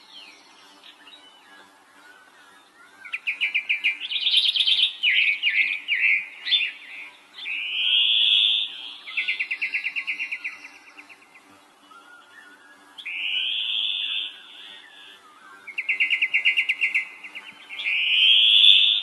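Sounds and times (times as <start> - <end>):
songbird singing trills: 0.0 - 19.0.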